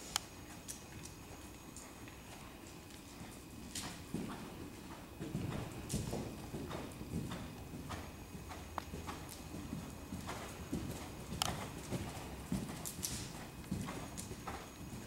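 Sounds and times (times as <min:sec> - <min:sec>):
horse hoofbeats on sand: 0:01.8 - 0:15.0.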